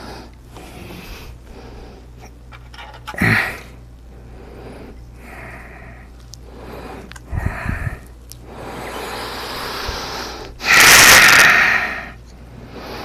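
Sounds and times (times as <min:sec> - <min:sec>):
person breathing heavily: 0:00.0 - 0:02.2, 0:03.2 - 0:13.0
low electrical hum: 0:00.0 - 0:13.0.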